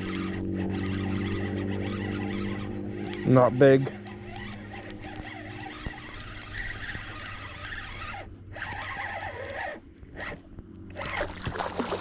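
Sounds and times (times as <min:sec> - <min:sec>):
fishing reel gears whirring: 0:00.0 - 0:12.0.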